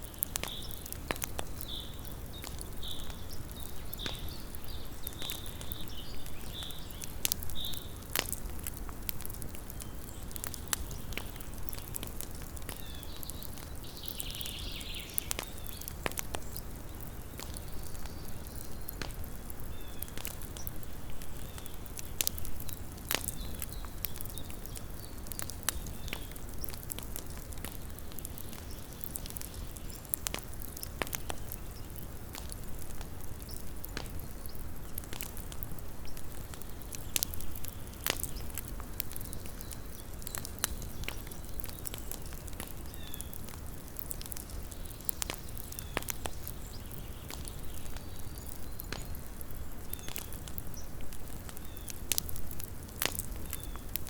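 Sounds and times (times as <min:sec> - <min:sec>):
campfire crackling: 0:00.0 - 0:54.0
fire pops and snaps: 0:00.0 - 0:54.0.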